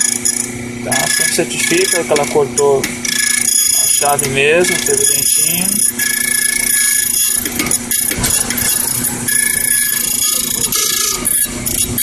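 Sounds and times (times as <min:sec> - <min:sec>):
key machine whining and humming: 0:00.0 - 0:12.0.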